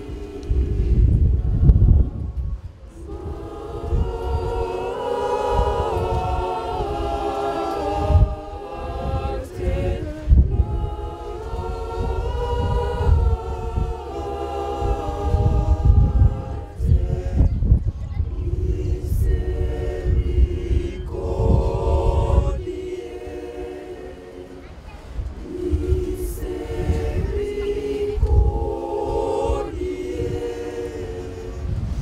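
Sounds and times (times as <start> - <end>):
low uneven rumble: 0.0 - 32.0
women's choir singing: 0.0 - 32.0.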